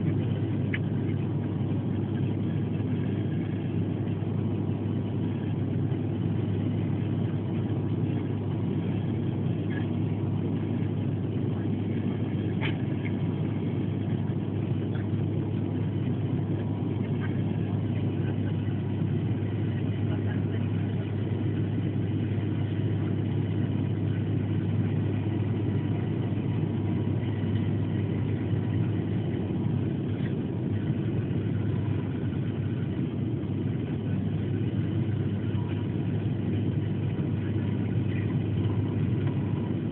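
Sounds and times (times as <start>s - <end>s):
airliner engine drone in cabin: 0.0s - 39.9s.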